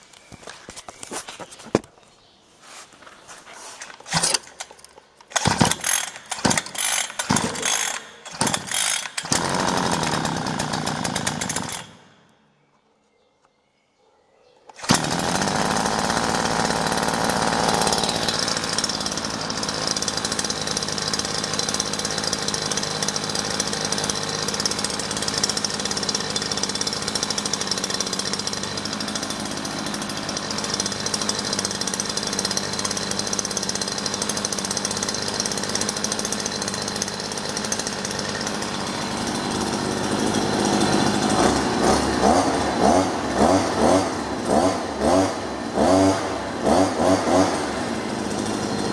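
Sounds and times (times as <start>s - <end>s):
brush cutter engine idling: 0.0s - 12.6s, 14.7s - 48.9s
engine revving in bursts: 5.3s - 11.9s, 14.8s - 48.9s.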